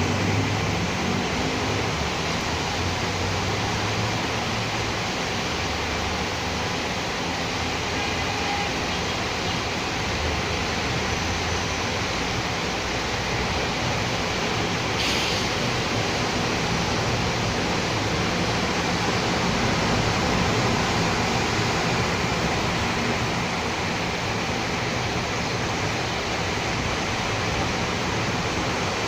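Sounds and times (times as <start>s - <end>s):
rain falling on street: 0.0s - 29.0s.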